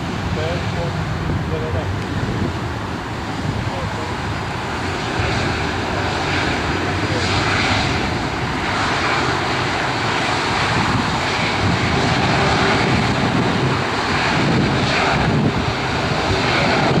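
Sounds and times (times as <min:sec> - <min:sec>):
airliner jet engines taxiing: 0:00.0 - 0:17.0.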